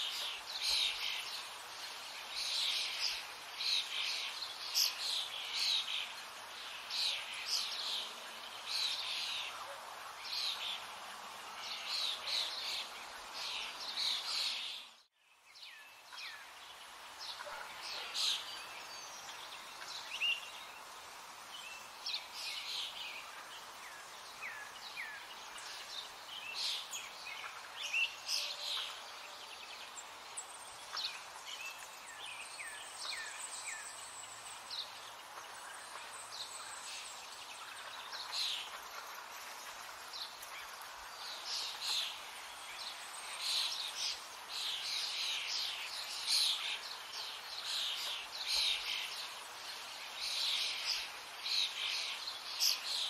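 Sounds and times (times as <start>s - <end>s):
light hiss: 0.0s - 53.0s.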